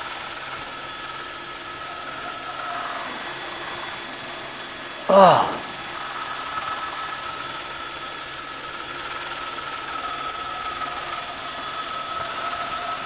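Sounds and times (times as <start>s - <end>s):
helicopter engine and rotors droning: 0.0s - 13.0s.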